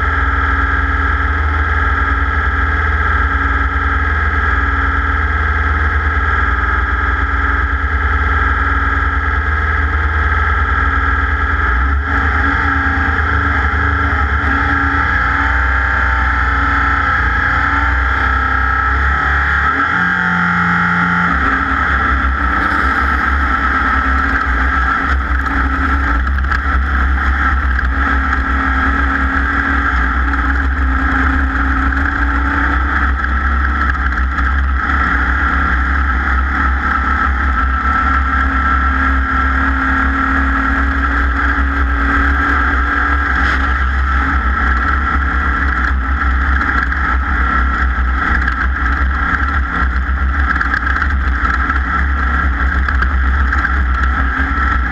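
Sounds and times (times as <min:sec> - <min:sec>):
race vehicle engine roaring: 0:00.0 - 0:54.9.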